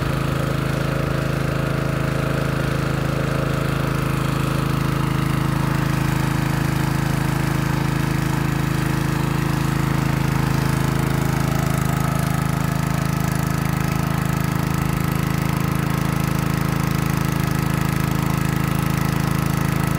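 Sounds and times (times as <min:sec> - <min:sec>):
water pump engine running: 0:00.0 - 0:19.9.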